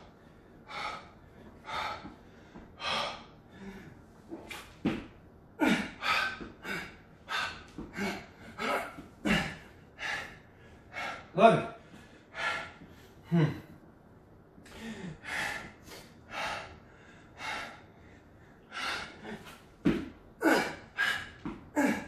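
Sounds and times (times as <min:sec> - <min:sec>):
man panting heavily: 0:00.0 - 0:04.6, 0:05.6 - 0:13.8, 0:14.7 - 0:22.0.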